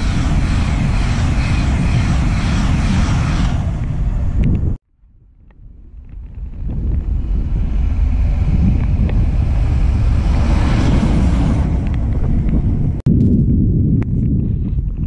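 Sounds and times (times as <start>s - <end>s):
train passing with deep rumble: 0.0s - 13.0s.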